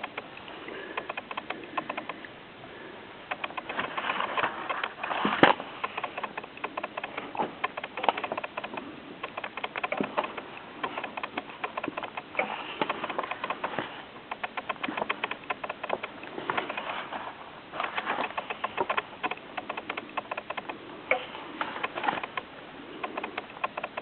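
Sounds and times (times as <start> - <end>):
light clicks: 0.0 - 2.3, 3.3 - 17.1, 17.8 - 24.0.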